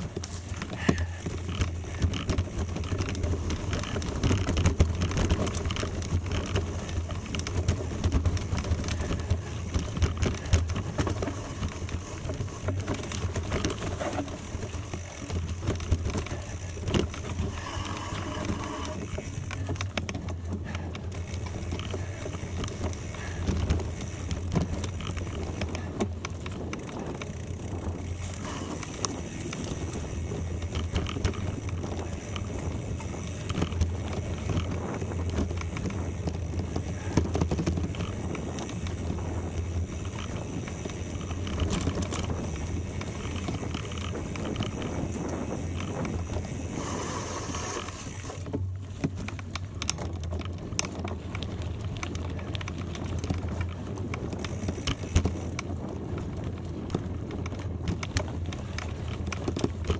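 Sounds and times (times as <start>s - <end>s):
bike tyres on road: 0.0s - 59.9s
low wind rumble on microphone: 0.0s - 59.9s
small rattles and clicks: 0.0s - 59.9s.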